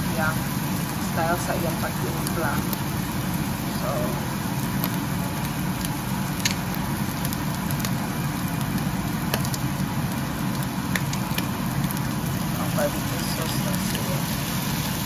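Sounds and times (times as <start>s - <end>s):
onion sizzling in a pan: 0.0s - 15.0s
steady low hum: 0.0s - 15.0s.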